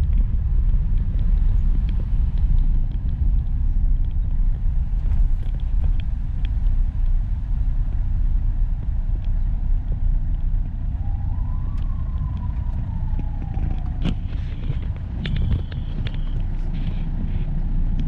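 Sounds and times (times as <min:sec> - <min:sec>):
faint whine: 0:00.0 - 0:18.0
vehicle rumble: 0:00.0 - 0:18.0.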